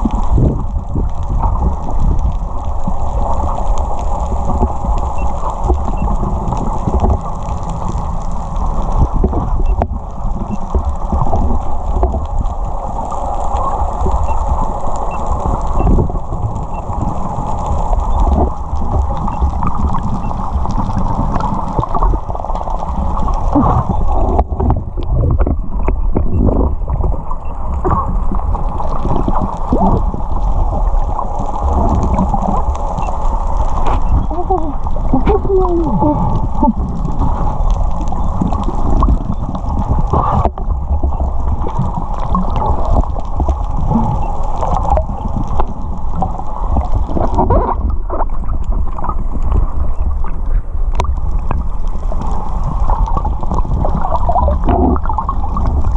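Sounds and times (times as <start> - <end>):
underwater water rush: 0.0 - 55.9.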